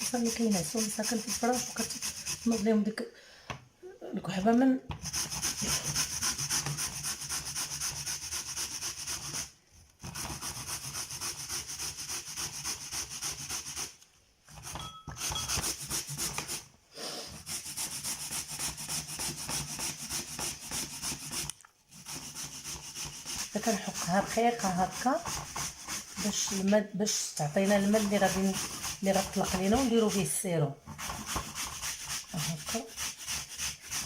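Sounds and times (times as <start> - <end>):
turnip grating on grater: 0.0 - 2.7, 5.0 - 13.9, 17.4 - 26.7, 27.4 - 34.0.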